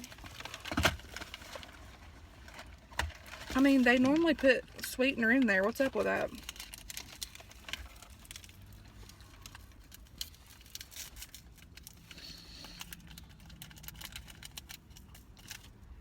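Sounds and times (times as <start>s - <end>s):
paper wrappers crinkling: 0.0s - 15.8s.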